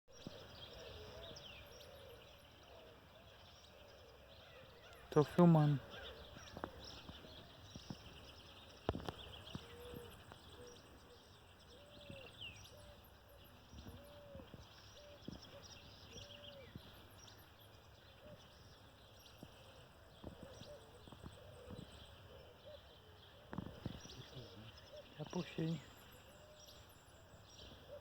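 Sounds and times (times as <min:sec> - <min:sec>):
short low bird calls: 0:00.1 - 0:28.0.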